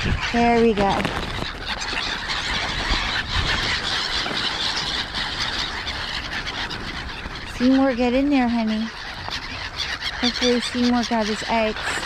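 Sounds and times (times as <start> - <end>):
flock of birds squealing: 0.0 - 12.0.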